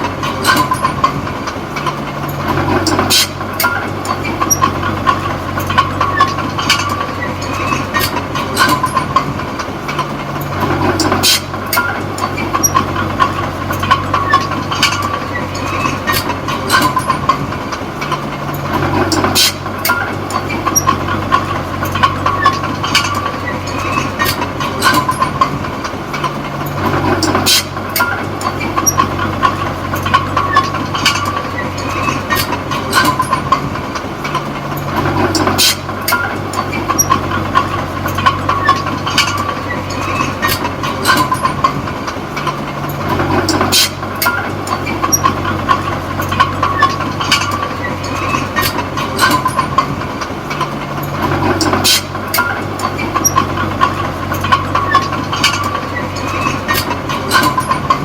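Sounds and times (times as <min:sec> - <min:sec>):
bulldozer diesel engine working: 0:00.0 - 0:58.0
metallic clanks from tracks: 0:00.0 - 0:58.0.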